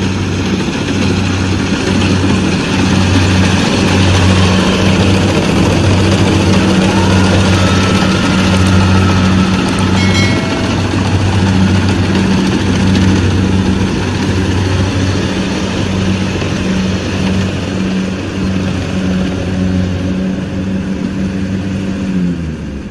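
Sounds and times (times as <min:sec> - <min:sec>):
diesel engine droning: 0:00.0 - 0:22.9.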